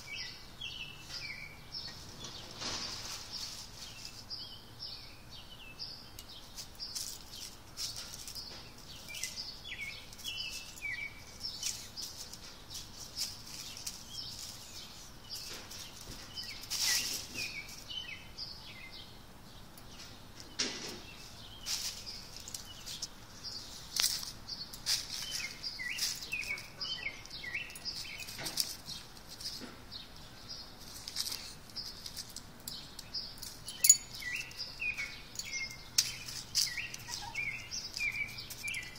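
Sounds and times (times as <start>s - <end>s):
bird chirping: 0.0s - 38.9s
dry leaves rustling and crackling: 1.9s - 4.3s, 6.4s - 18.0s, 21.2s - 38.9s.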